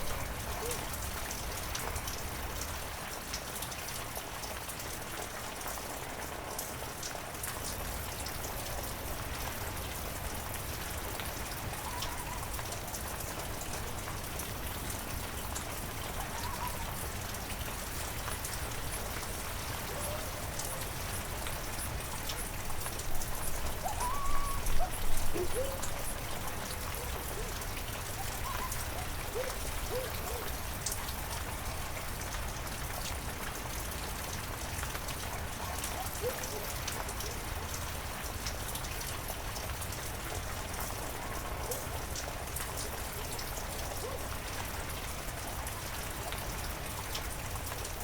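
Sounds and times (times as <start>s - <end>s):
heavy rain with drop ticks: 0.0s - 48.0s.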